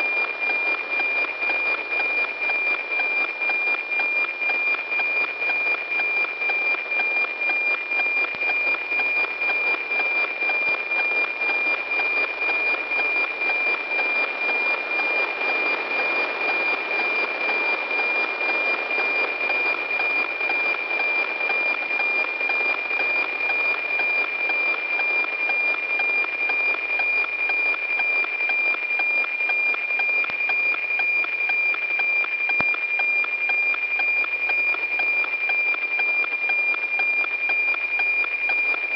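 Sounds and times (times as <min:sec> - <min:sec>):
high tone with tick-tock beat: 0:00.0 - 0:38.9.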